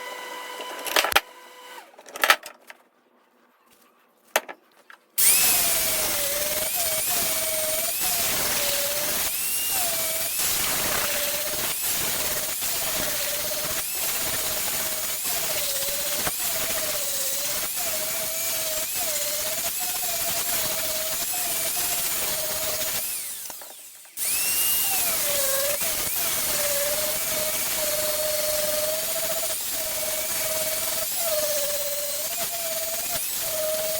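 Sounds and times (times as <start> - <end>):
power tool working on wood: 0.0 - 1.9, 5.2 - 33.9.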